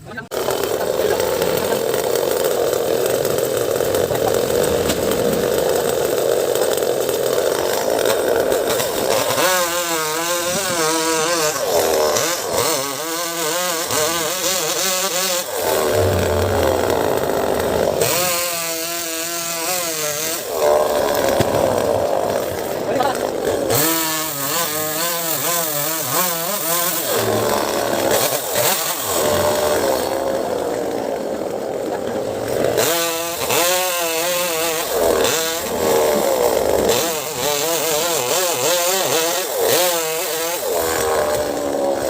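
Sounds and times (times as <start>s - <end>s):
chainsaw running: 0.3s - 42.0s.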